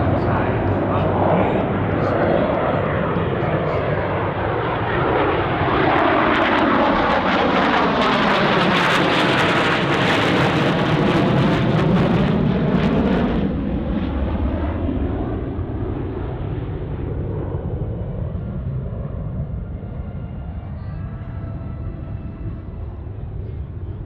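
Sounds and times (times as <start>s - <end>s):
jet aircraft flying past: 0.0s - 24.0s.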